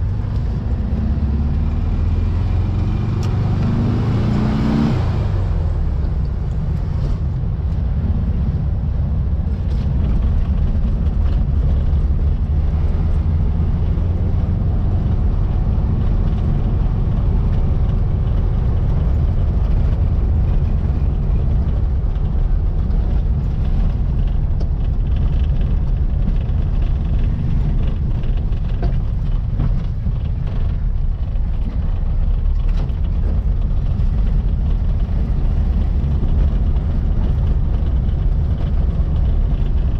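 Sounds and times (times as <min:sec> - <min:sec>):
car engine low rumble: 0:00.0 - 0:39.9.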